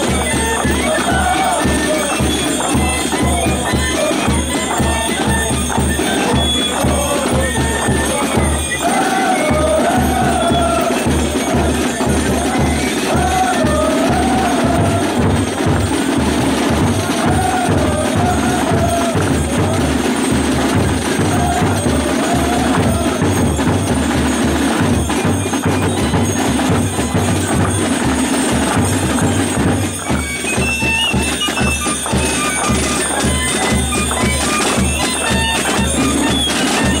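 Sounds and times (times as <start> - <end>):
belt bells jingling: 0.0 - 37.0
drums beating: 0.0 - 37.0
wavering wind instrument tune: 0.0 - 37.0.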